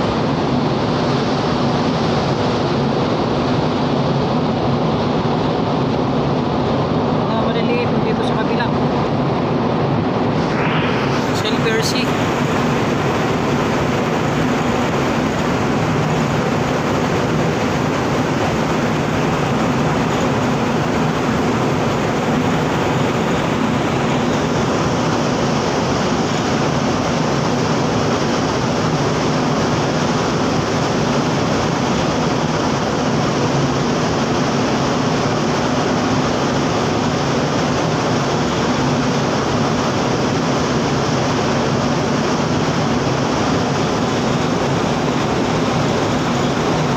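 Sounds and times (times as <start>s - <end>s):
low ship engine drone: 0.0s - 46.9s
rush of wind and water: 0.0s - 46.9s.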